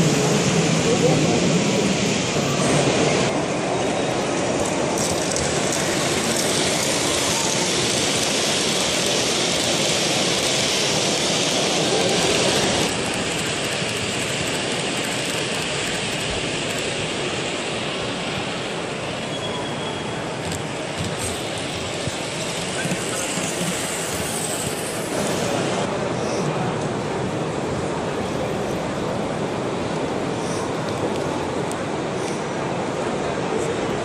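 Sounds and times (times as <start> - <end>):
hubbub of a busy hall: 0.0 - 34.0
model train wheels rumbling on track: 0.0 - 34.0.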